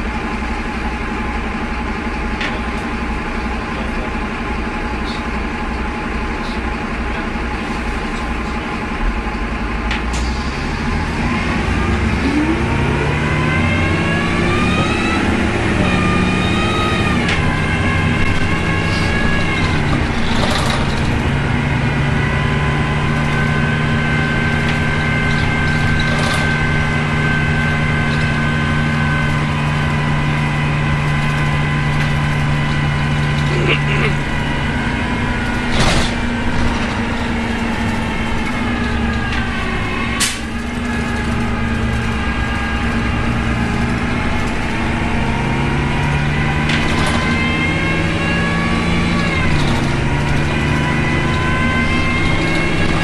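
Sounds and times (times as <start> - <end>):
bus engine howl: 0.0 - 53.0.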